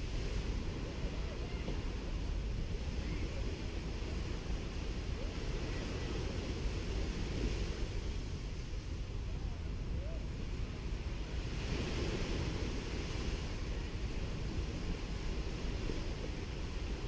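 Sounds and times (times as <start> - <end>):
waves washing onto a beach: 0.0 - 17.0
wind rumble on microphone: 0.0 - 17.0.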